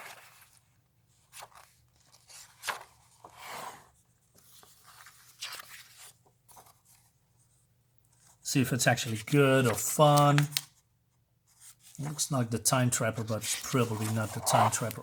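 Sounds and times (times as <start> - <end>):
paper rustling and crinkling: 0.0 - 7.2, 8.1 - 10.8, 11.5 - 15.0.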